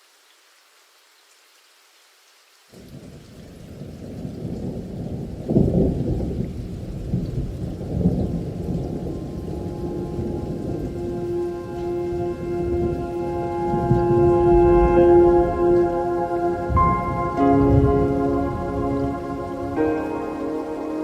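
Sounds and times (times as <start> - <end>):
faint rain hiss: 0.0 - 21.0
muffled thunder rumble: 2.9 - 21.0.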